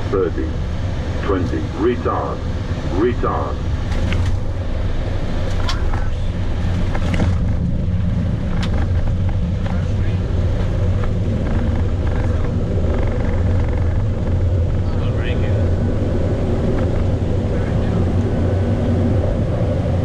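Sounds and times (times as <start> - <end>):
wheels and engines rumbling: 0.0 - 20.0.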